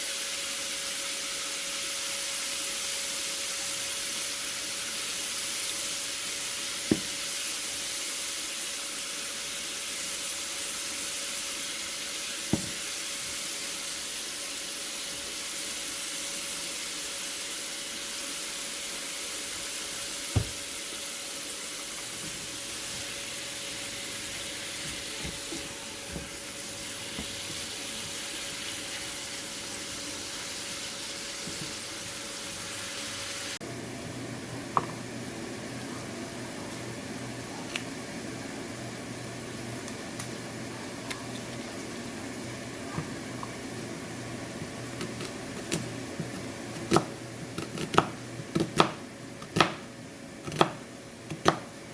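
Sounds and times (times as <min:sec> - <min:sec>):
stir-fry sizzling in a pan: 0:00.0 - 0:51.9.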